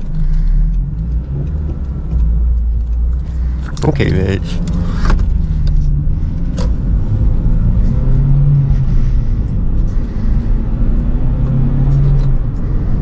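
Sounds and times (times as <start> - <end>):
car engine running: 0.0 - 13.0
road rumble: 0.0 - 13.0.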